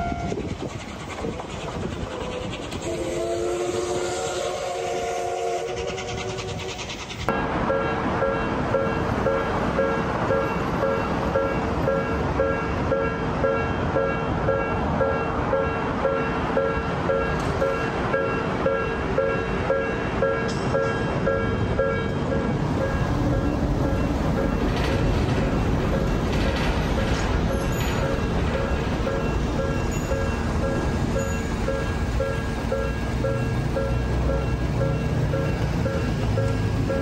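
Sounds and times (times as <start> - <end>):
constant rumbling noise: 0.0 - 37.0
level crossing warning bell: 7.3 - 37.0.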